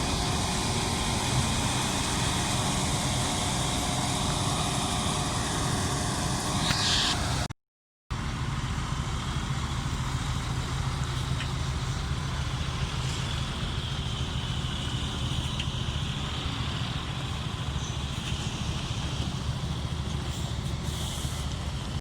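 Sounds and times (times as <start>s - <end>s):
combine harvester running: 0.0s - 7.5s, 8.1s - 22.0s.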